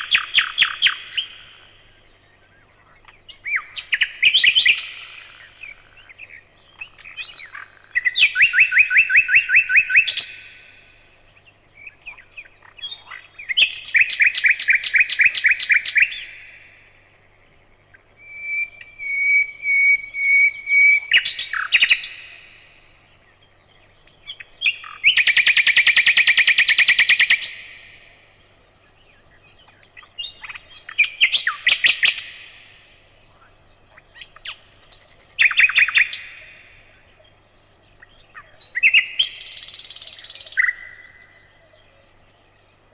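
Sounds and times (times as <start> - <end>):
nightingale singing: 0.0 - 42.9.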